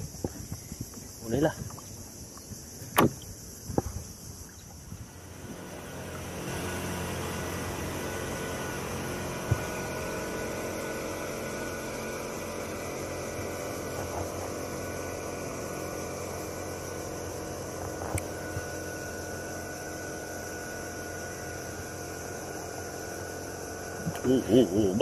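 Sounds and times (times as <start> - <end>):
motorboat engine running: 0.0 - 25.0.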